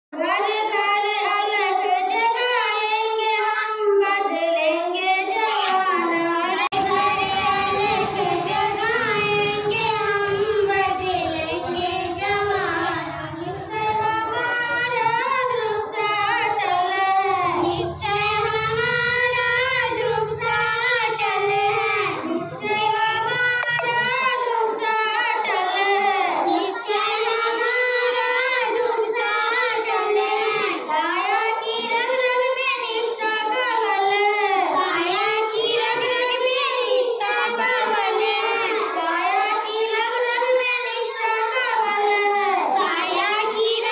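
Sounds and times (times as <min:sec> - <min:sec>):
girls singing together: 0:00.2 - 0:43.9.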